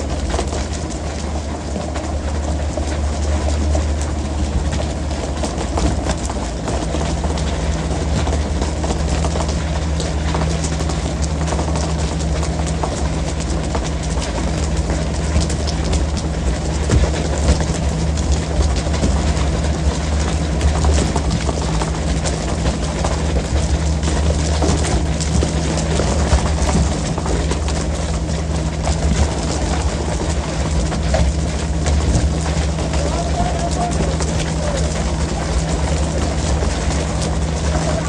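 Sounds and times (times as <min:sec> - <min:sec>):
boat engine droning: 0:00.0 - 0:38.0
water washing: 0:00.0 - 0:38.0.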